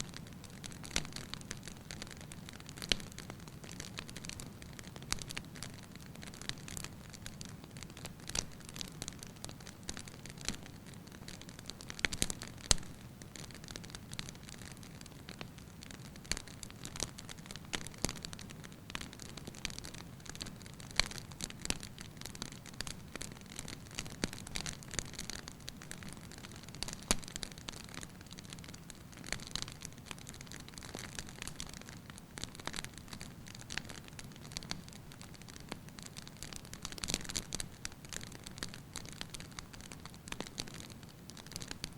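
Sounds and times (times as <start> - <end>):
logs crackling and popping: 0.0 - 41.9
soft hiss of flames: 0.0 - 41.9.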